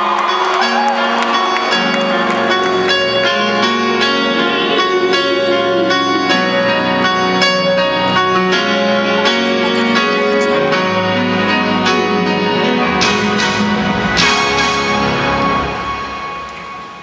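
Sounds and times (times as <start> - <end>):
slow grand piano solo: 0.0 - 14.3.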